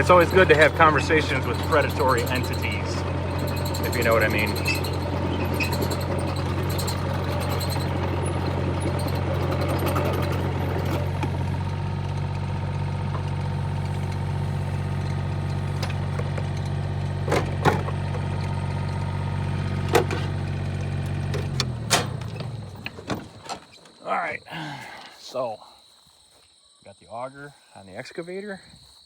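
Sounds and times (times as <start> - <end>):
excavator engine running: 0.0 - 24.4.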